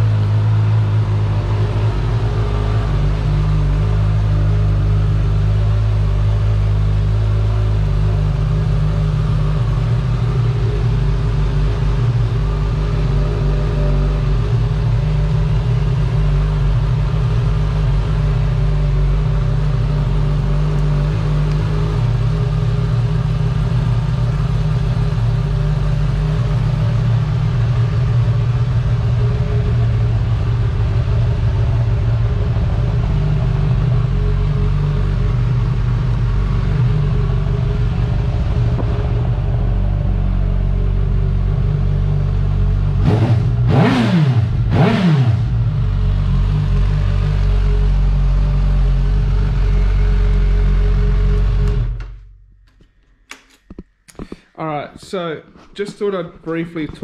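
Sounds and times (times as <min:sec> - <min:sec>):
motorcycle engine idling: 0:00.0 - 0:52.8.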